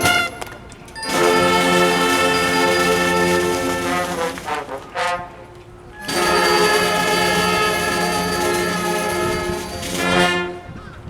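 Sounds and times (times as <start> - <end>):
brass band sustained chord: 0.0 - 10.8.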